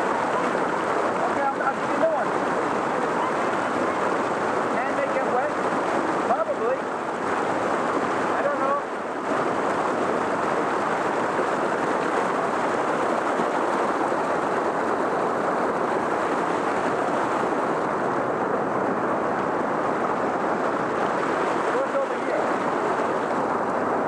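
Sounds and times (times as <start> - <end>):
creek rushing over rocks: 0.0 - 24.0.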